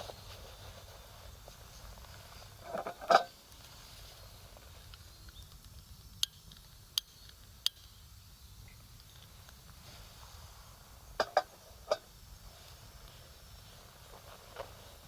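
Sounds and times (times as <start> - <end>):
sharp fire crackles: 0.0 - 2.7, 3.3 - 15.0
rustle and knock: 0.0 - 6.7, 9.0 - 15.0
campfire burning: 0.0 - 15.0.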